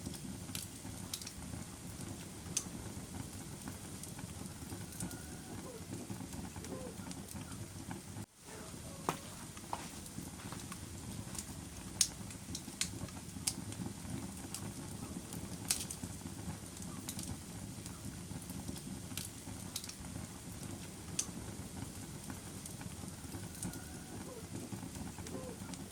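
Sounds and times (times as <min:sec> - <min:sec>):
fire crackles and pops: 0:00.0 - 0:25.9
fire low rumble: 0:00.0 - 0:25.9.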